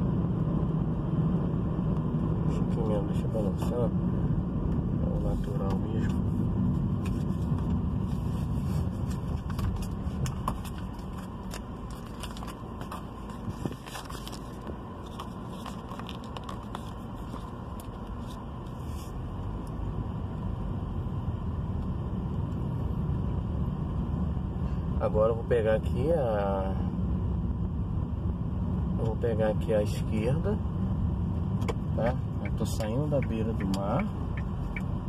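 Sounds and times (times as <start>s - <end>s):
engine and tyre rumble: 0.0s - 35.0s.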